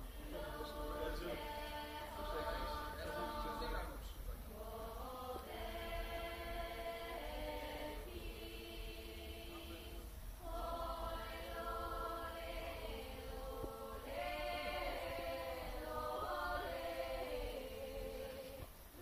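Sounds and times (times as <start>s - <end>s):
women singing in harmony: 0.0s - 19.0s.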